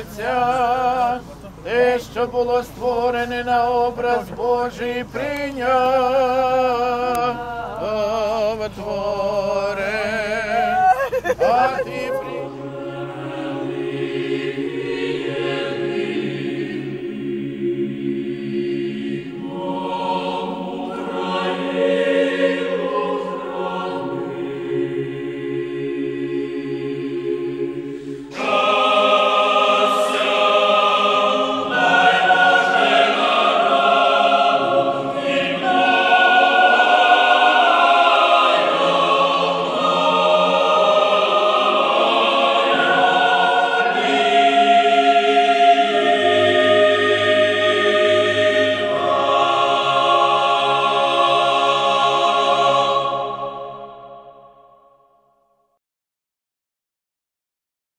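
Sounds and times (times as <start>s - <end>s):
choir singing long held notes: 0.0s - 55.4s.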